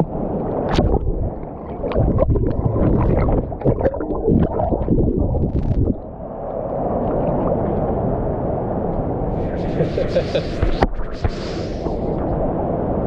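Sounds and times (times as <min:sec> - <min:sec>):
rumble of turbulent water: 0:00.0 - 0:13.0.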